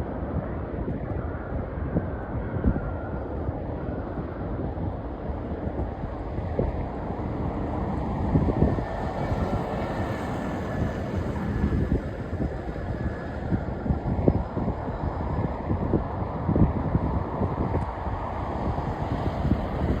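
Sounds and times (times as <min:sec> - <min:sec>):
wind buffeting microphone: 0:00.0 - 0:20.0
jet engines rumbling: 0:00.9 - 0:20.0.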